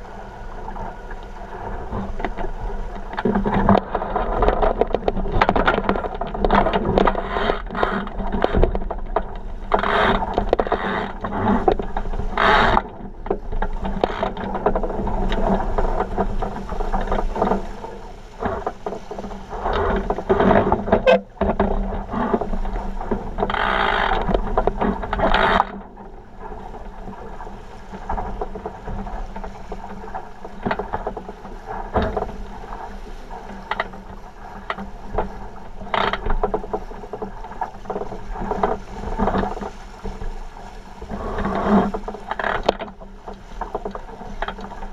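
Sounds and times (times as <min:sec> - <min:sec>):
water rushing and splashing along hull: 0:00.0 - 0:44.9.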